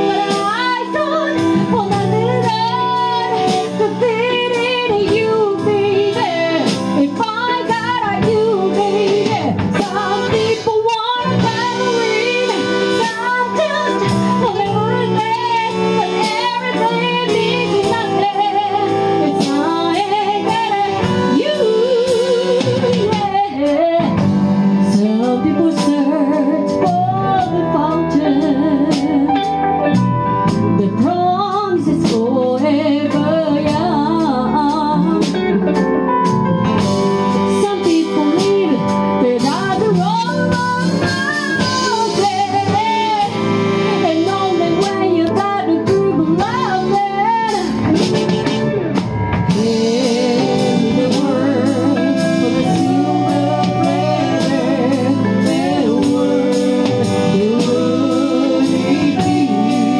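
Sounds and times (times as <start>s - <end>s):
steady drum beat: 0.0s - 32.4s, 33.1s - 59.9s
woman singing into microphone: 0.0s - 36.0s, 37.2s - 59.9s
electric guitar: 0.0s - 59.9s
keyboard: 0.0s - 59.9s.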